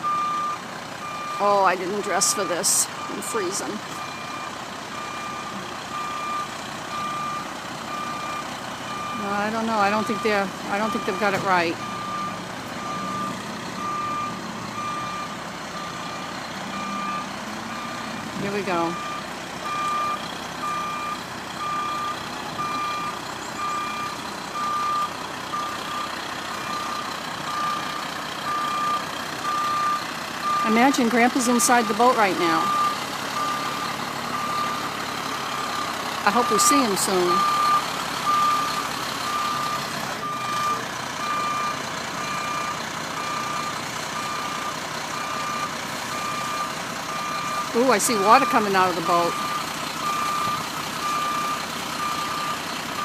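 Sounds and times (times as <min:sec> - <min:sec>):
truck engine running: 0:00.0 - 0:53.0
truck reversing alarm beeping: 0:00.0 - 0:53.0.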